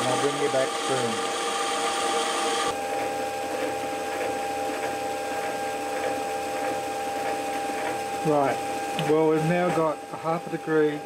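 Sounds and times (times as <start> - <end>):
metal lathe whining: 0.0 - 11.0.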